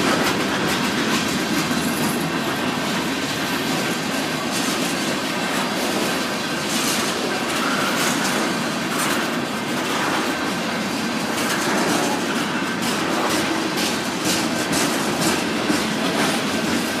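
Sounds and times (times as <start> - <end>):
train wheels rumbling on rail: 0.0 - 17.0
wheels clacking over rail joints: 0.0 - 17.0.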